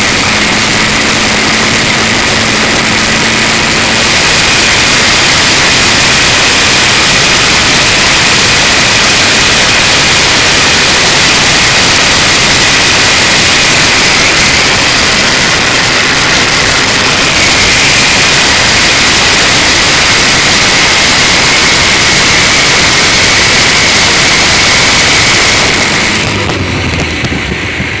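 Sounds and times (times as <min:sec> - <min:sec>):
high turbo whistle: 0:00.0 - 0:26.6
turbo diesel engine running hard: 0:00.0 - 0:28.0.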